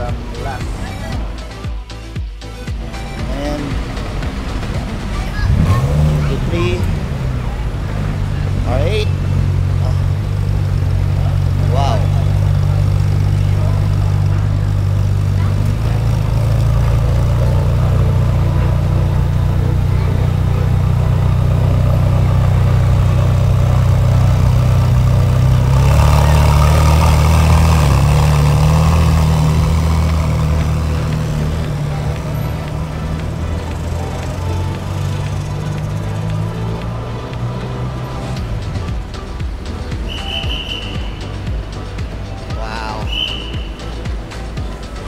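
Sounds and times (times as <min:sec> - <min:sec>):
car engine idling: 0:00.0 - 0:45.0
car engine pulling away: 0:00.0 - 0:45.0.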